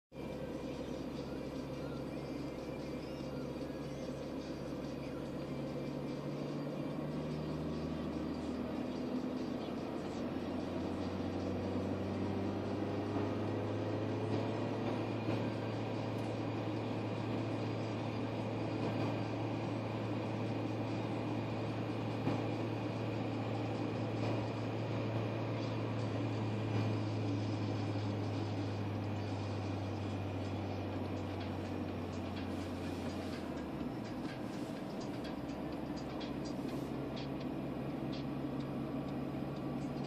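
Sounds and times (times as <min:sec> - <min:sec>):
car engine accelerating: 0:00.1 - 0:40.0.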